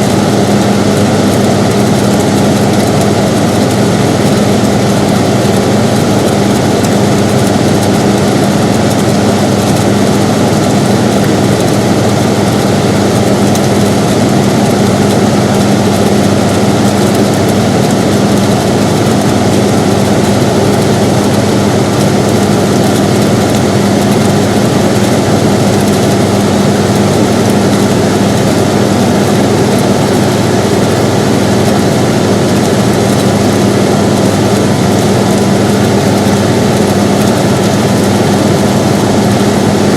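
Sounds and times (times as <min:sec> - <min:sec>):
air conditioner whooshing: 0:00.0 - 0:39.9.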